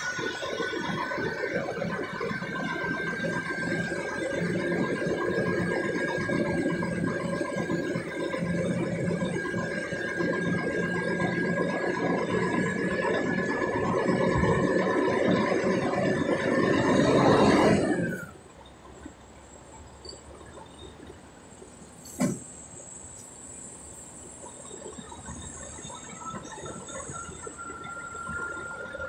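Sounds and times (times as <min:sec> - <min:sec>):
steady whine: 0:00.0 - 0:29.0
truck engine and road noise: 0:00.0 - 0:29.0.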